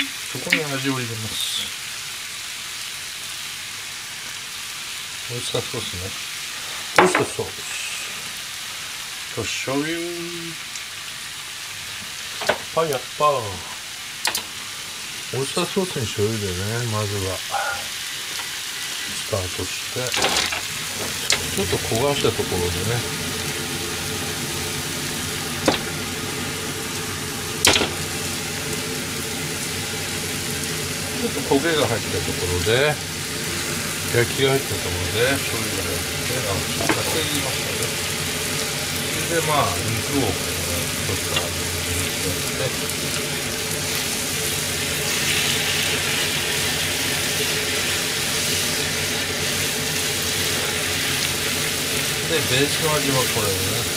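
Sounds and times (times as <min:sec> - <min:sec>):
noodles sizzling in a frying pan: 0:00.0 - 0:53.9.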